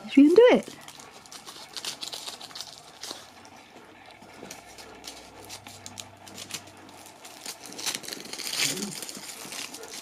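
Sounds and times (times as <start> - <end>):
foil wrapper crinkling: 0.0 - 3.6, 4.2 - 10.0.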